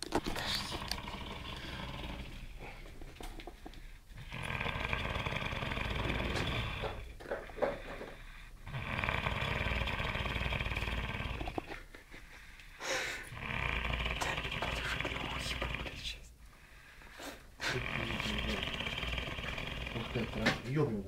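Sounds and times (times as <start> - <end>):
rattly snoring: 0.0 - 11.9, 13.2 - 16.3, 17.6 - 21.0.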